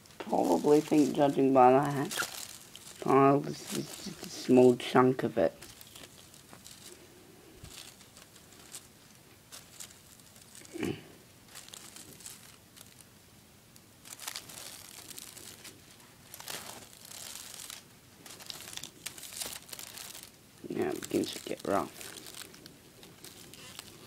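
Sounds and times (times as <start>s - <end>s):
tape crinkling and rustling: 0.0s - 24.0s.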